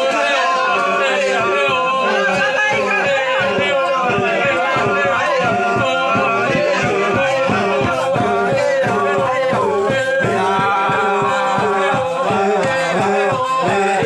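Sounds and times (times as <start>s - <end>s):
group of voices chanting: 0.0s - 14.0s.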